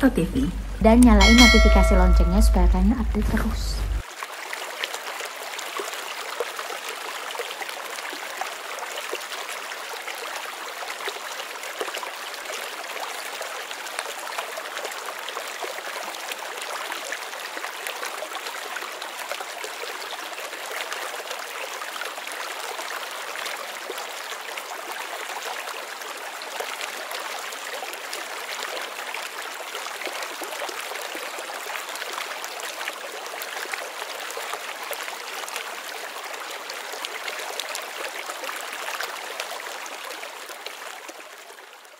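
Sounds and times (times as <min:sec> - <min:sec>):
stream water flowing: 0:04.0 - 0:41.9.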